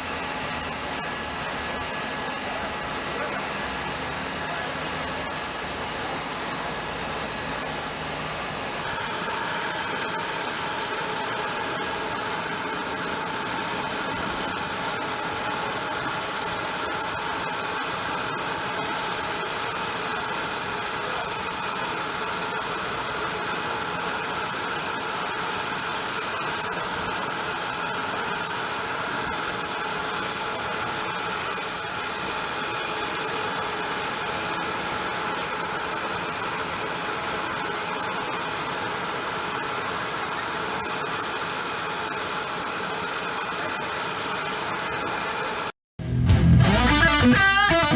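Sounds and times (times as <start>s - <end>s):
aircraft turbine running: 0.0s - 45.8s.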